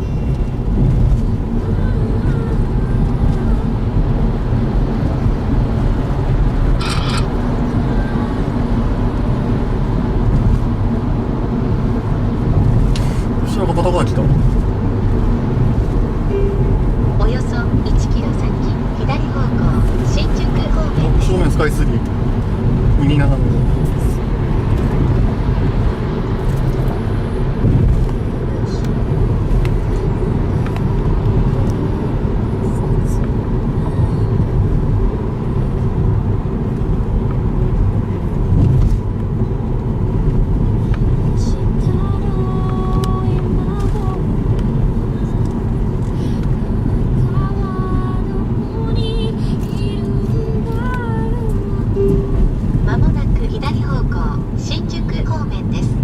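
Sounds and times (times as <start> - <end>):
road and engine rumble in car: 0.0 - 56.0.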